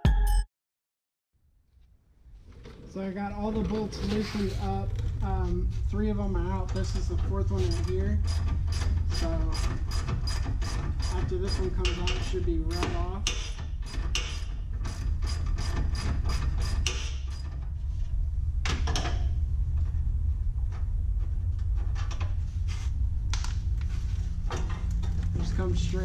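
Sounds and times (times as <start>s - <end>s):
steady low hum: 1.9s - 26.0s.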